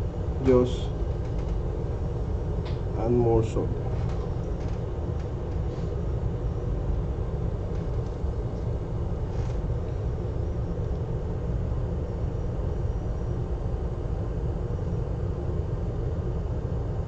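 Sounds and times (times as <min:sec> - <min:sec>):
low rumbling machine noise: 0:00.0 - 0:17.0.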